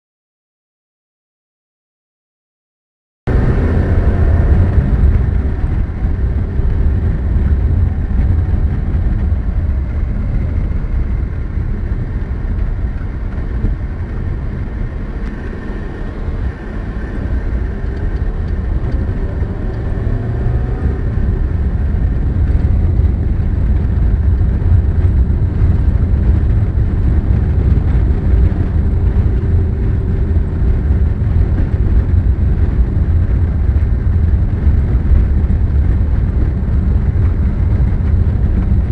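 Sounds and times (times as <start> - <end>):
car driving on dirt road: 3.3 - 38.9.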